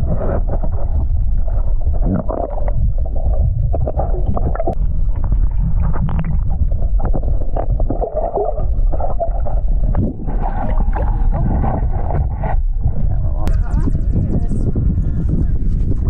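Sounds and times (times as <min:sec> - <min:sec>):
muffled underwater rumbling and gurgling: 0:00.0 - 0:16.0.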